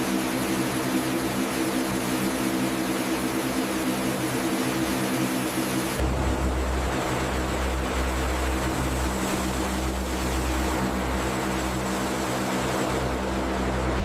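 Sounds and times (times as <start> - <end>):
turboprop engines roaring: 0.0 - 14.0.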